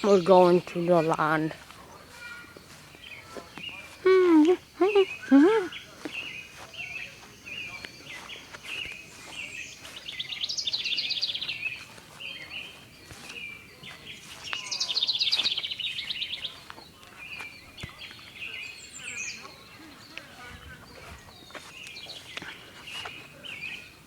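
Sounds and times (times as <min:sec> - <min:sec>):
songbird chirps: 0:00.0 - 0:24.0.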